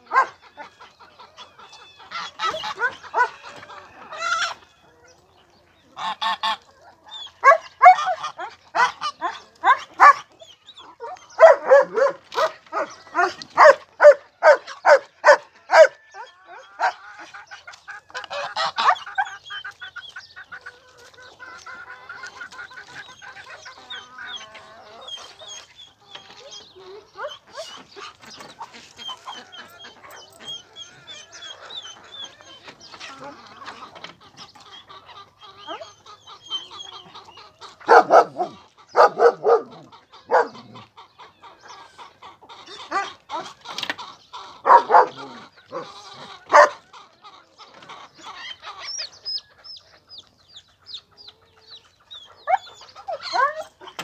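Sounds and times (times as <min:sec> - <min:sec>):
farmyard fowl calling: 0:00.0 - 0:54.0
fowl chattering: 0:00.0 - 0:54.0.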